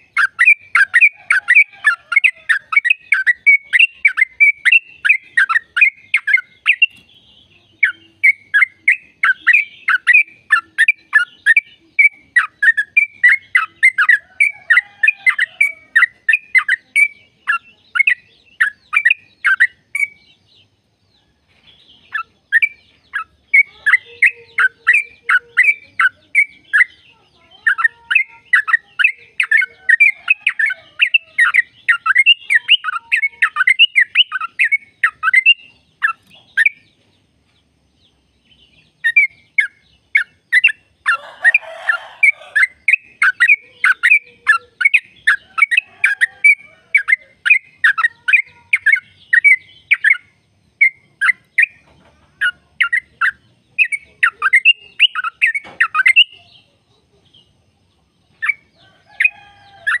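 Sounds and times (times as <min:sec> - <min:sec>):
bird singing rapid song: 0:00.0 - 1:00.0.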